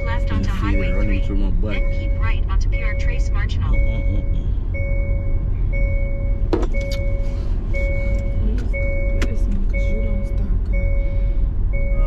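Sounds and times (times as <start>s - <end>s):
car road and engine rumble: 0.0s - 12.0s
car warning chime beeping: 0.0s - 12.0s.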